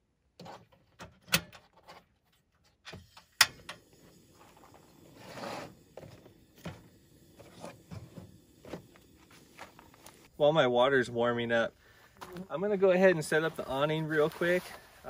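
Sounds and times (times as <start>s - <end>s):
faint gas burner hiss: 2.8s - 15.0s.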